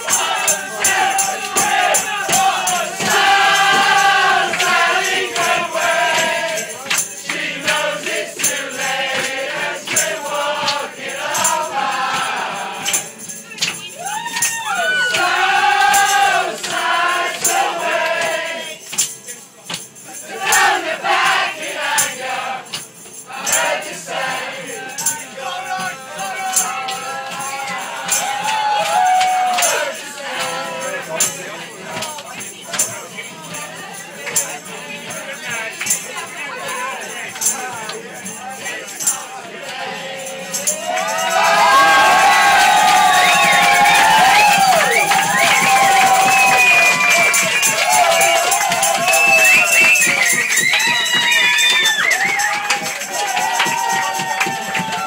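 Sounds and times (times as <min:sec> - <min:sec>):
group singing along: 0:00.0 - 0:13.8, 0:14.7 - 0:19.1, 0:20.1 - 0:51.5
rattling hand percussion: 0:00.0 - 0:55.0.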